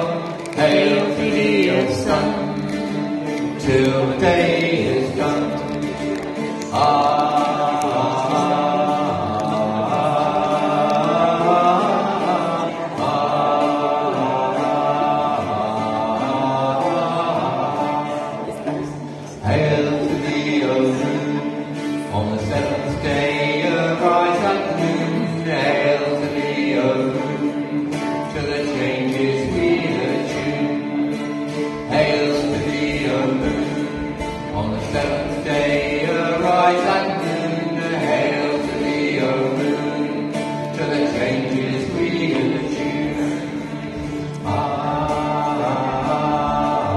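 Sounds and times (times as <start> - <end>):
men singing chant: 0.0 - 2.8, 3.5 - 5.8, 6.8 - 18.6, 19.4 - 46.9
plucked string instrument: 0.0 - 46.9.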